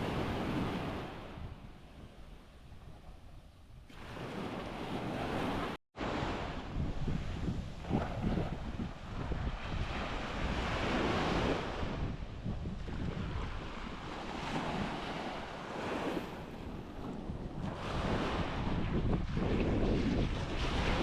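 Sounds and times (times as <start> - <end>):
waves breaking on sandy shore: 0.0 - 3.2, 3.9 - 21.0
wind buffeting microphone: 0.0 - 21.0.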